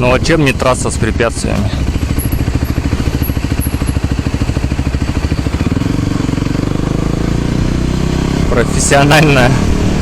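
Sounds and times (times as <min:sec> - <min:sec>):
motor scooter engine running: 0:00.0 - 0:10.0.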